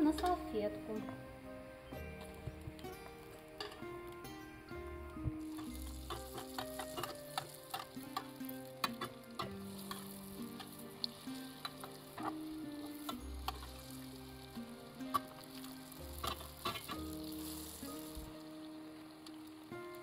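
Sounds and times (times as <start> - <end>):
doughnuts sizzling in hot oil: 0.0 - 20.0
quiet background music: 0.0 - 20.0
oil crackling and popping: 2.1 - 20.0.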